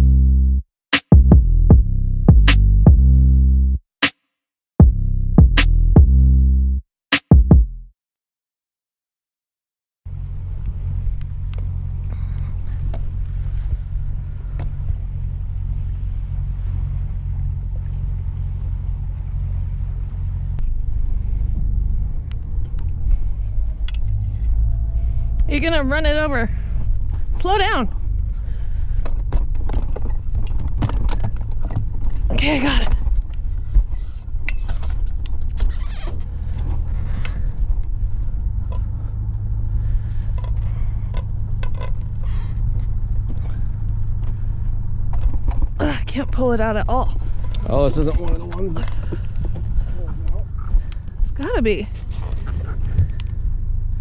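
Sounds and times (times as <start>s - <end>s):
diesel engine running slowly: 10.1s - 54.0s.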